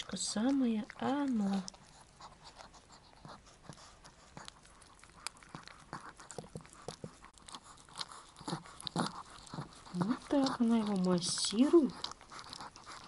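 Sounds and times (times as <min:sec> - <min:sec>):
dog licking puppy: 0:00.0 - 0:13.0.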